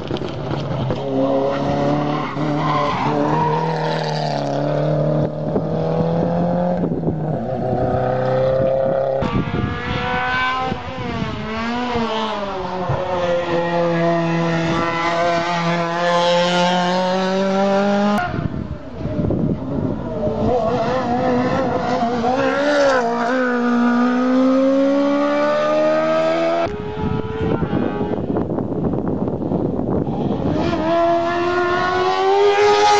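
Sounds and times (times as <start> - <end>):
race car engines revving: 0.0 - 32.9.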